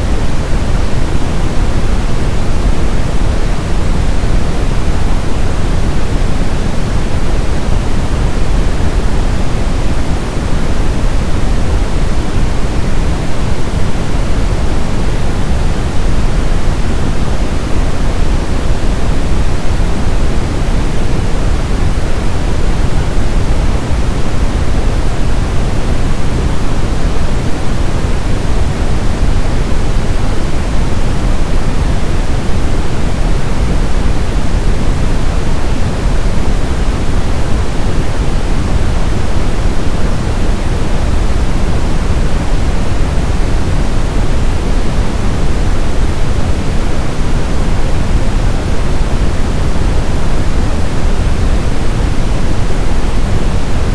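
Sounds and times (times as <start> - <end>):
brown noise: 0.0 - 53.9.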